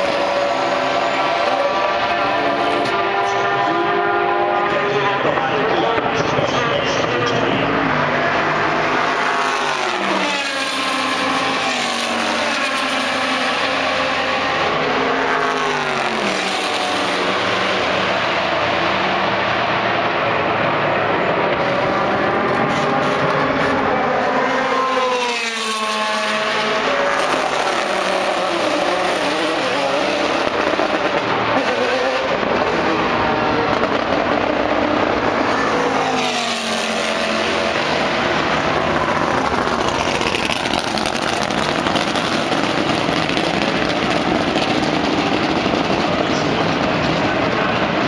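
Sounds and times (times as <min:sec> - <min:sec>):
race car engines running: 0:00.0 - 0:48.0
race cars passing by: 0:00.0 - 0:48.0.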